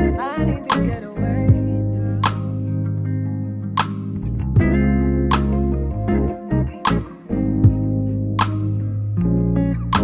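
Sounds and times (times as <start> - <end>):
guitar and bass instrumental: 0.0 - 10.0.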